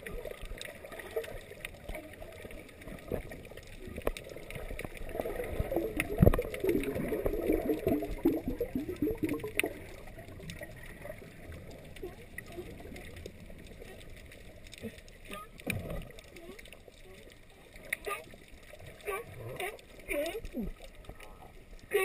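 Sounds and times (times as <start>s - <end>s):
muffled underwater gurgling: 0.0s - 22.0s.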